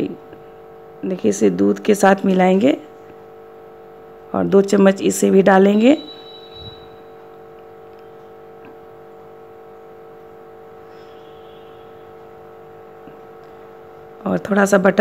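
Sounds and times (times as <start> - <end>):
steady multi-pitched hum: 0.0 - 15.0.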